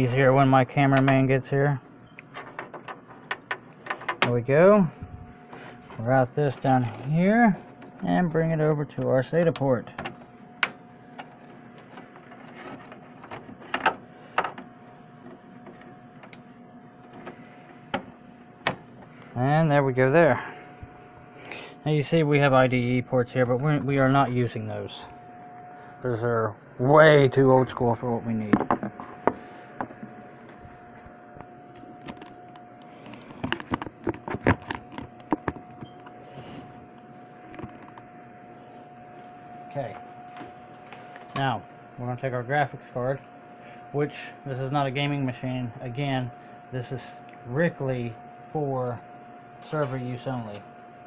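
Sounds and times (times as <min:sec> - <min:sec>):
faint high hum: 0:00.0 - 0:51.0.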